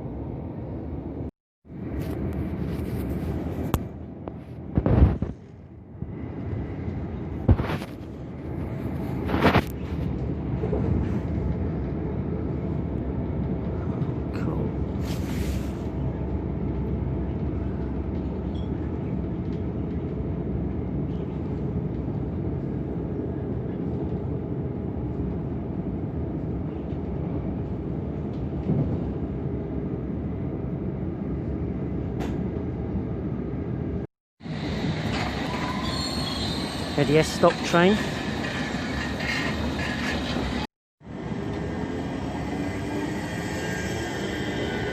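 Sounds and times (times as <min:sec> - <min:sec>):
train rumbling inside carriage: 0:00.0 - 0:44.9.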